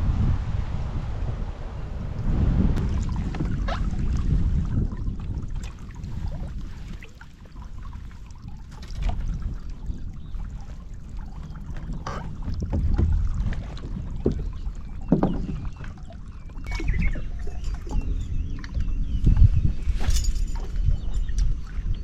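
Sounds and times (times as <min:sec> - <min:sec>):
water moving around boat: 0:00.0 - 0:22.0
wind rumbling on microphone: 0:00.0 - 0:22.0.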